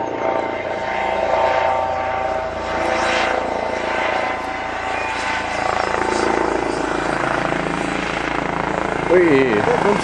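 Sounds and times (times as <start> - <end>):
helicopter rotors and turbine whine: 0.0 - 10.0.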